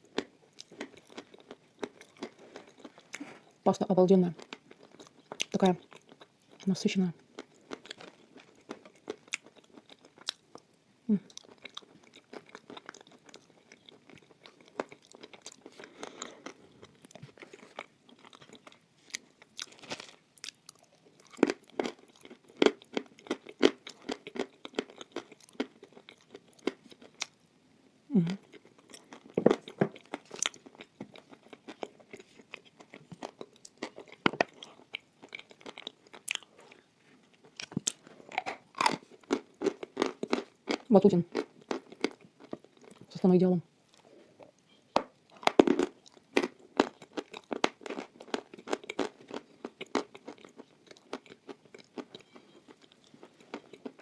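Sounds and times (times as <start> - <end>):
close chewing with crunches: 0.0 - 3.6, 4.3 - 10.7, 11.3 - 27.4, 28.3 - 43.1, 45.2 - 54.0.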